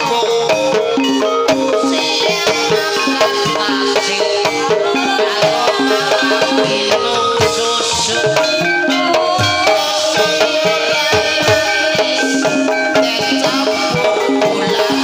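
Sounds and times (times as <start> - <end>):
drums: 0.0 - 15.0
pitched percussion melody: 0.0 - 15.0.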